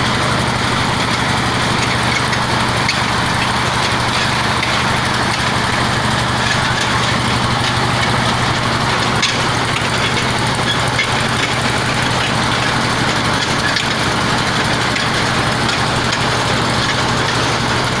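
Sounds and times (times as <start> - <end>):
drilling rig humming: 0.0 - 18.0.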